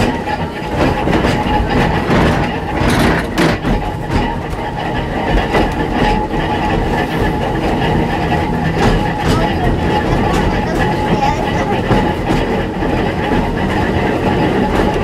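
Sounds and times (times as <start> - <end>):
clicks over rail joints: 0.0 - 15.0
tram wheels rumbling on rails: 0.0 - 15.0.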